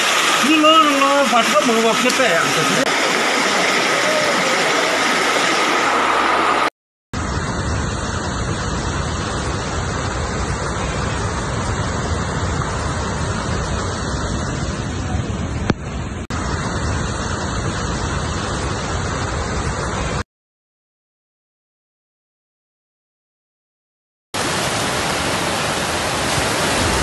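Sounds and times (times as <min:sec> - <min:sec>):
rushing floodwater: 0:00.0 - 0:06.7, 0:07.9 - 0:20.2, 0:24.4 - 0:27.0.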